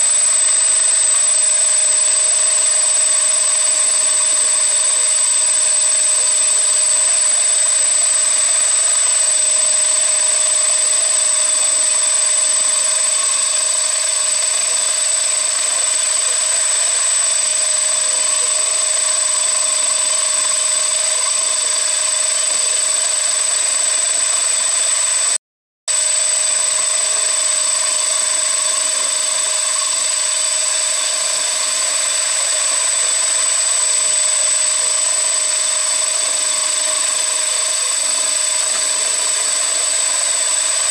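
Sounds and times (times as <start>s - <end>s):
cnc machine running: 0.0s - 40.9s.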